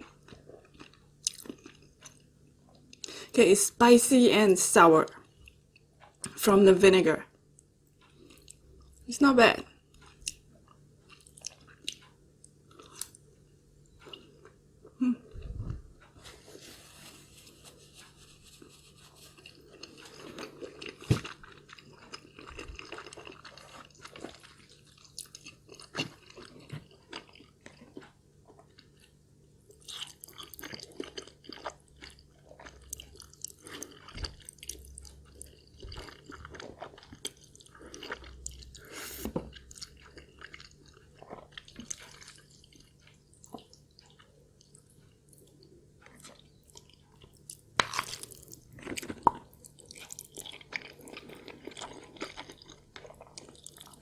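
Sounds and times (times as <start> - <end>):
person chewing and eating: 0.0 - 3.2, 7.6 - 9.1, 9.7 - 54.0.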